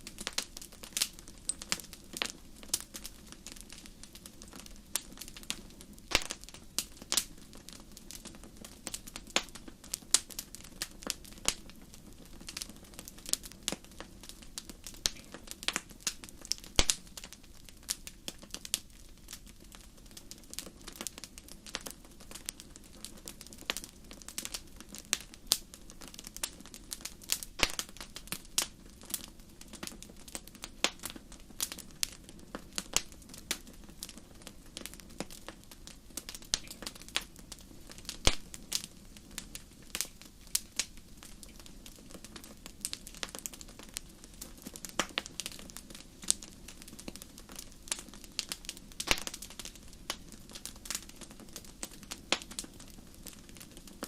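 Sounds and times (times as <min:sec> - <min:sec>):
low steady hiss: 0:00.0 - 0:54.0
wood fire crackling: 0:00.0 - 0:54.0.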